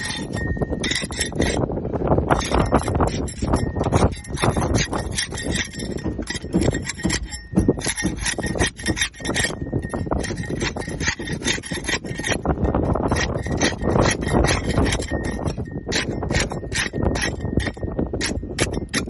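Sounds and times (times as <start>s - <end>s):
scraping boat hull: 0.0s - 19.0s.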